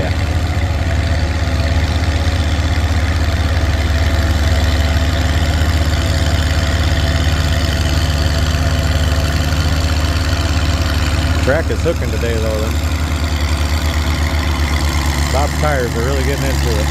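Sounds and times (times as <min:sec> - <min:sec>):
tractor engine droning under load: 0:00.0 - 0:16.9.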